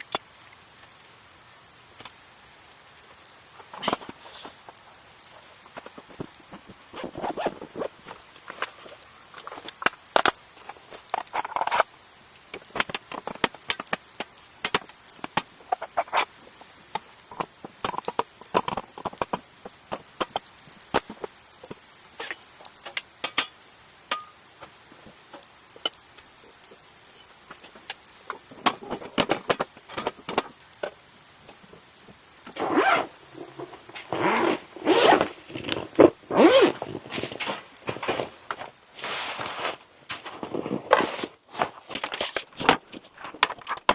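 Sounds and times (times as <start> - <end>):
raindrops pattering: 0.0 - 43.9
rustling or scraping: 3.5 - 43.9.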